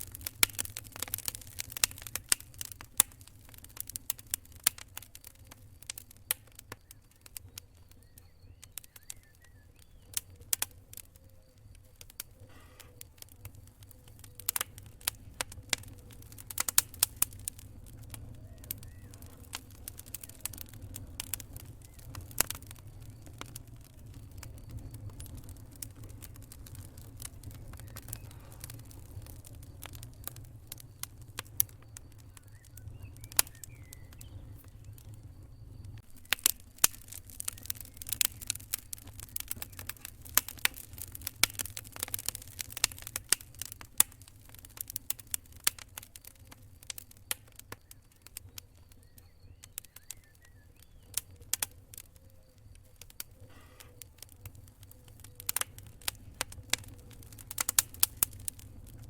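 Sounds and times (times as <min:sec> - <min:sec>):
campfire crackling: 0:00.0 - 0:59.0
fire pops and snaps: 0:00.0 - 0:59.0.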